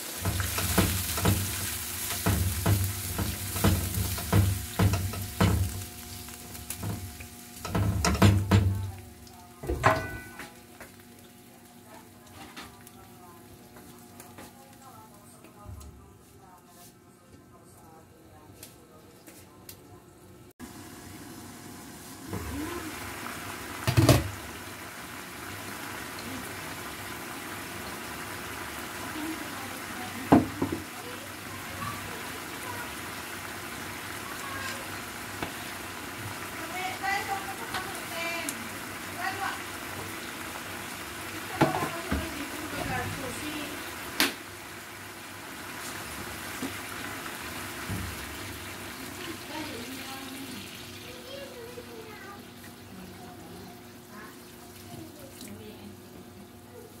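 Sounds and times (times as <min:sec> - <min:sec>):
chicken sizzling in a wok: 0:00.0 - 0:14.8, 0:20.6 - 0:57.0.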